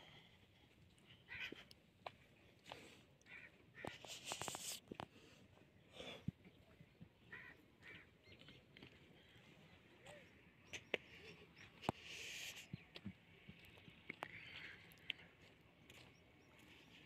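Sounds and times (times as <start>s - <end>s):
faint distant bird calls: 0.0s - 17.0s.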